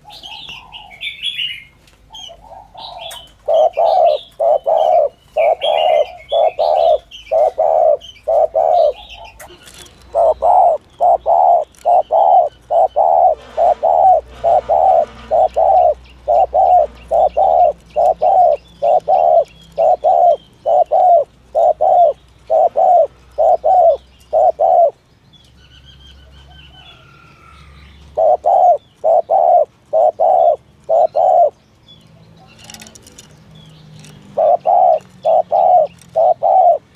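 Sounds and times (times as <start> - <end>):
dove cooing: 0.0 - 25.0, 26.5 - 31.6, 34.0 - 36.9
small birds chirping: 0.0 - 36.9.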